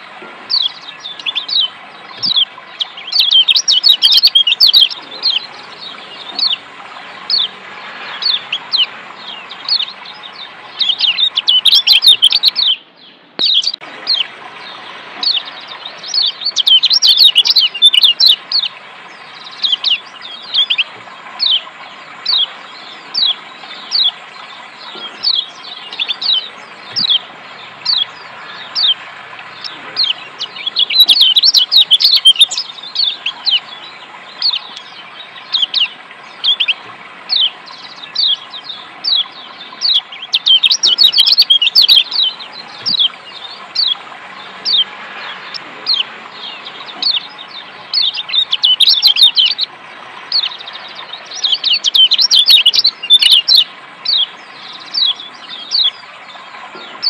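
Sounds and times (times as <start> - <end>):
bird chirping rapidly: 0.0 - 57.0
running water: 0.0 - 57.0.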